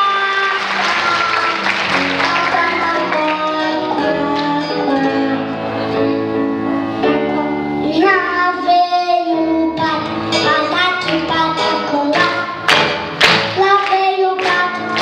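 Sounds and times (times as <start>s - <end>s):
child singing: 0.0s - 6.3s, 7.1s - 12.8s, 13.5s - 15.0s
instrumental accompaniment: 0.0s - 15.0s.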